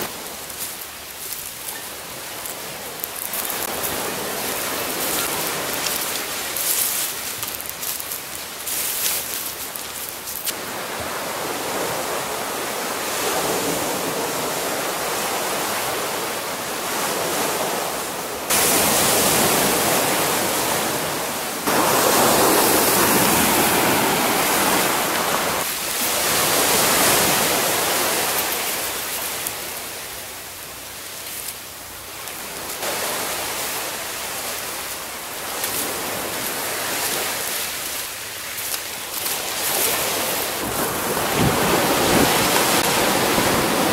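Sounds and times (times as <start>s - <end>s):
surf breaking on shore: 0.0s - 30.6s, 31.2s - 43.9s.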